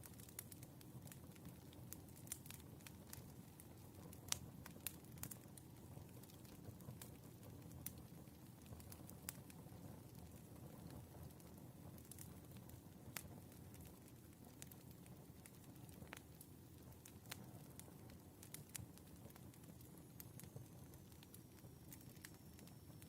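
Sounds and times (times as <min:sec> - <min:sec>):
fire popping: 0:00.0 - 0:23.0
wood fire crackling: 0:00.0 - 0:23.0
burning logs rumbling: 0:00.1 - 0:22.7.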